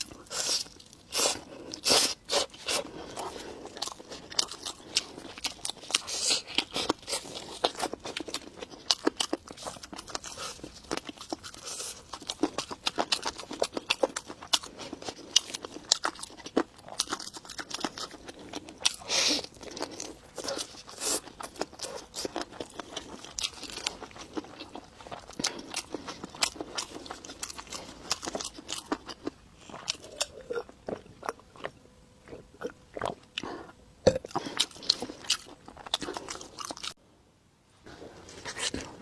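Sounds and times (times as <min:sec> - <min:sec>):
person chewing and crunching food: 0:00.0 - 0:37.0, 0:37.9 - 0:39.0.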